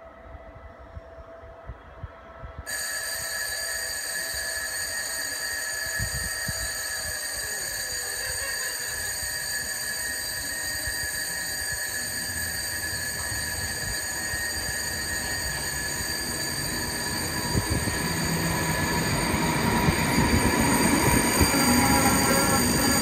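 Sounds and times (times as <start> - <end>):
electric train passing: 0.0 - 23.0
high-pitched whine and squeal: 2.6 - 23.0.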